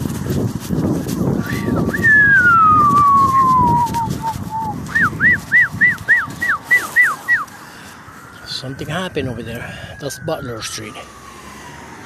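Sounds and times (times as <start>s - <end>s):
emergency vehicle siren: 1.4s - 12.0s.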